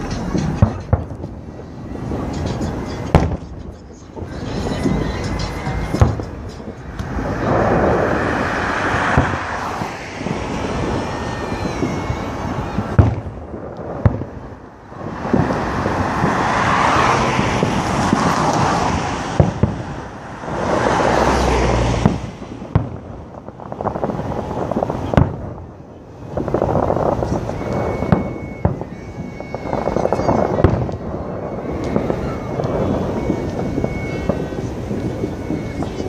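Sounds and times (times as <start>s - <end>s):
fireworks bursting: 0.0s - 36.0s
rushing crackling fireworks noise: 0.0s - 36.0s.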